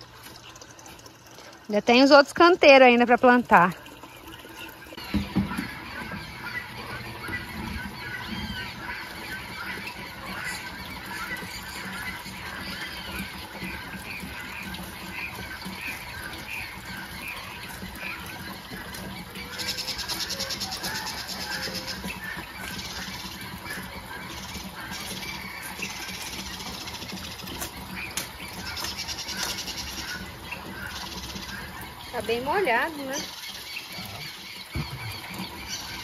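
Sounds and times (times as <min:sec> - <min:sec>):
birds calling: 0:00.0 - 0:36.0
water splashing onto soil: 0:00.0 - 0:36.0.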